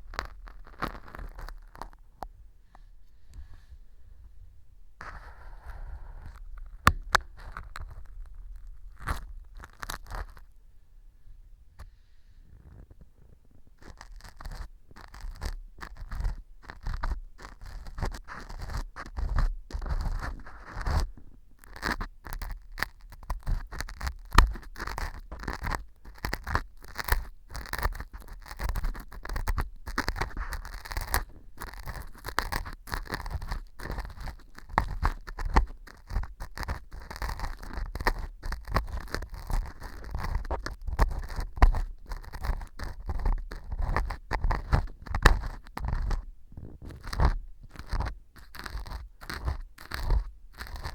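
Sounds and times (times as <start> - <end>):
earpick scraping gritty material: 0.0 - 2.1, 5.0 - 10.6, 12.5 - 50.9.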